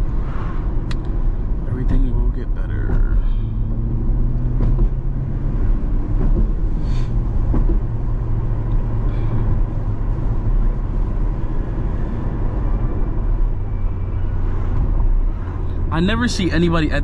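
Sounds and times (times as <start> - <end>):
car engine droning: 0.0 - 17.0
tyre and road noise: 0.0 - 17.0.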